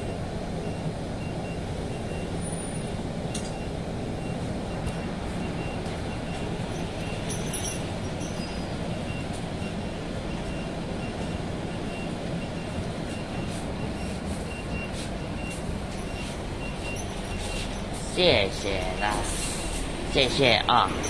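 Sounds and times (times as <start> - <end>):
bus interior rumble: 0.0 - 21.0.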